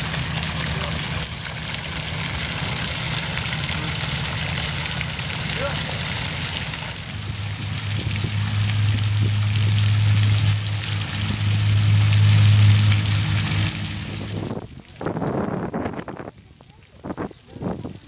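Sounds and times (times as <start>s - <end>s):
loud low hum: 0.0s - 16.5s
fountain water splashing: 0.0s - 18.0s.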